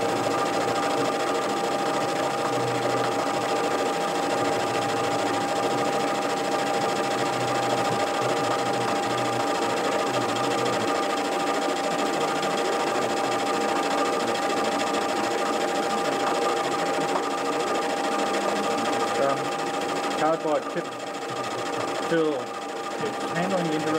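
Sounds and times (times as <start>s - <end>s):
constant high whine: 0.0s - 23.9s
metal lathe cutting: 0.0s - 23.9s.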